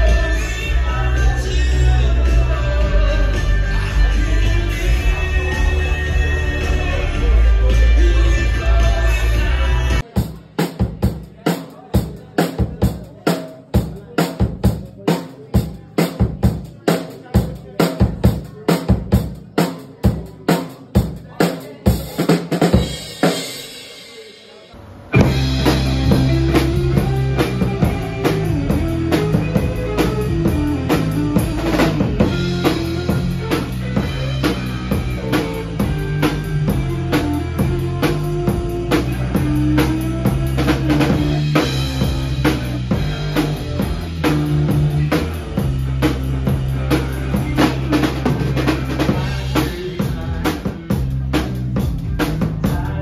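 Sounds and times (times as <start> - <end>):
drum kit: 0.0 - 53.0
rock band music: 0.0 - 53.0.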